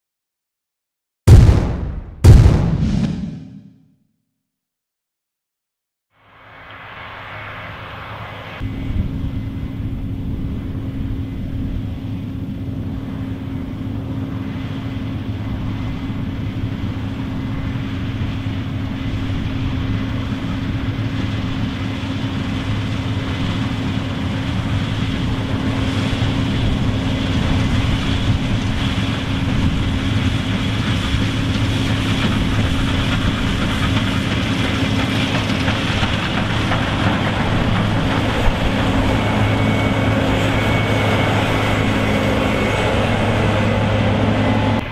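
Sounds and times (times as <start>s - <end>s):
combine harvester humming: 8.0s - 44.9s.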